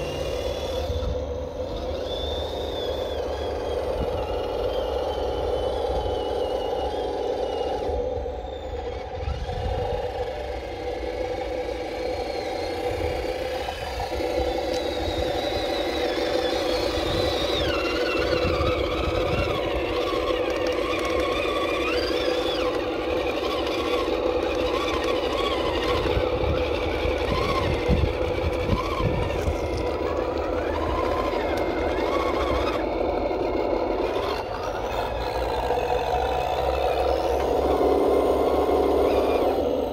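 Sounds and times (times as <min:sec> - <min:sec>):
toy truck motor whine: 0:00.0 - 0:39.9.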